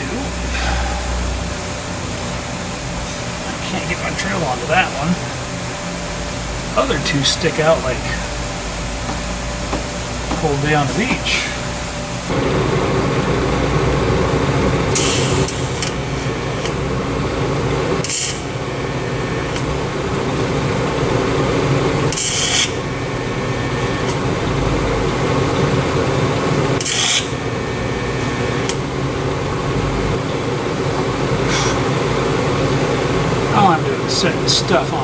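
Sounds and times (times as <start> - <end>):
power tool working: 6.3 - 35.0.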